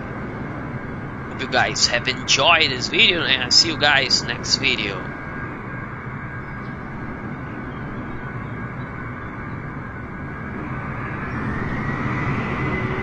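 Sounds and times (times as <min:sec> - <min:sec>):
jet engines rumbling with high whine: 0:00.0 - 0:13.0.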